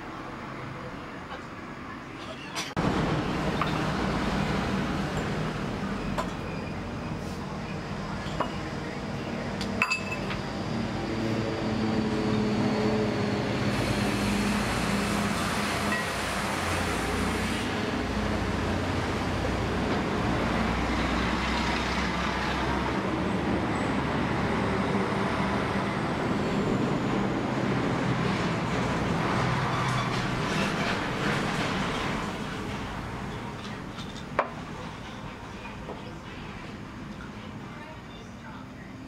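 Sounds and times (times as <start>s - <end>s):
vehicle traffic rumble: 0.0s - 39.0s.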